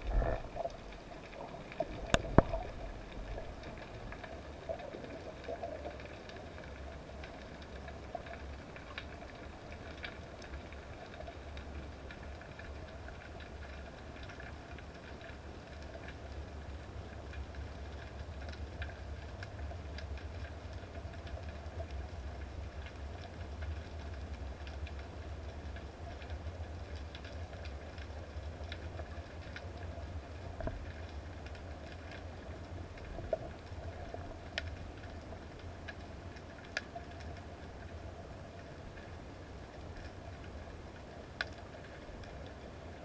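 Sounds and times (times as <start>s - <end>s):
underwater water rumble: 0.0s - 43.0s.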